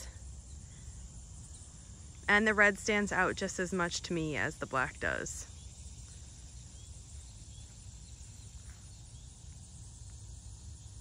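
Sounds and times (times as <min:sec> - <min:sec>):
crickets and insects chirring: 0:00.0 - 0:11.0.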